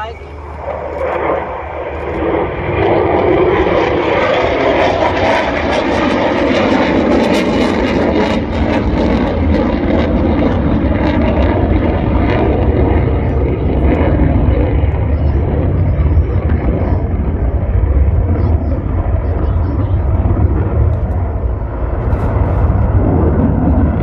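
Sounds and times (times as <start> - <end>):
deep rumble: 0.0 - 24.0
jet roar: 0.0 - 24.0.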